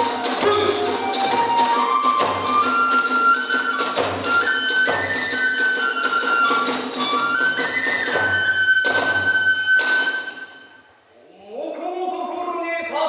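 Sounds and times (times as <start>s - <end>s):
drum beats: 0.0s - 10.6s
bamboo flute melody: 0.0s - 10.9s.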